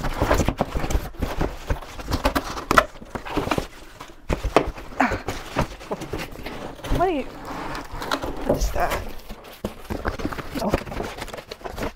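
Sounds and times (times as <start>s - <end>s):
cardboard box being handled: 0.0s - 11.9s.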